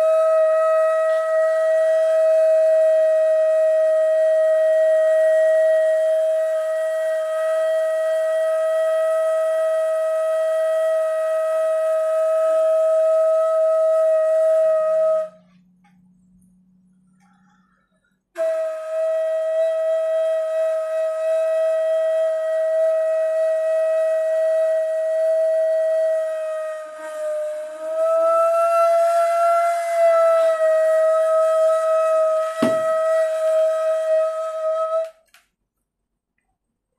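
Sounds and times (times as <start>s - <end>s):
cane flute long airy note: 0.0s - 35.3s.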